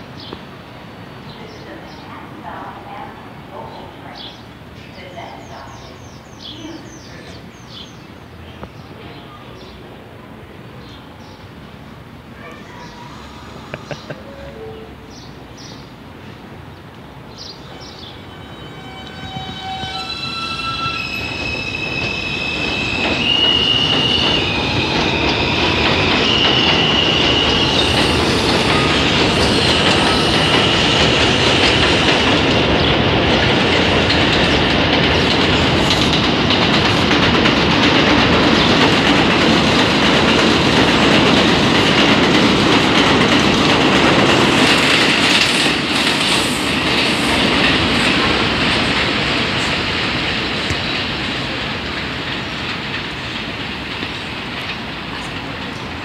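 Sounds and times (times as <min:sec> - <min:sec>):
subway train running on rails: 0:00.0 - 0:56.0.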